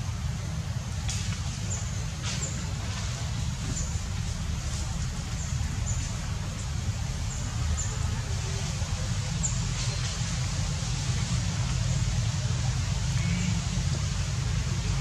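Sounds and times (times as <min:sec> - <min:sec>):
low rumble: 0:01.0 - 0:15.0.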